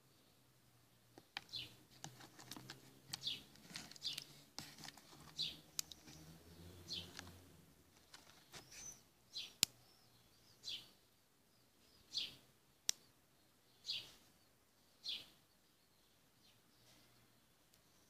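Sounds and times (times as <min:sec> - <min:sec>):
bird chirping: 0:00.9 - 0:18.0.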